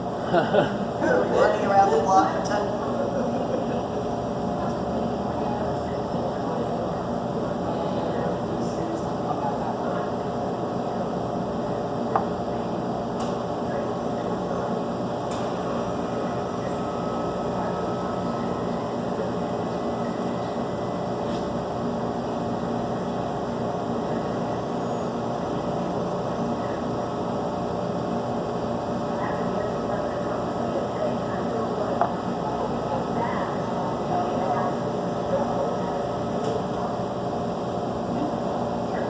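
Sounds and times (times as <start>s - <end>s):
mechanical hum of equipment: 0.0s - 39.0s.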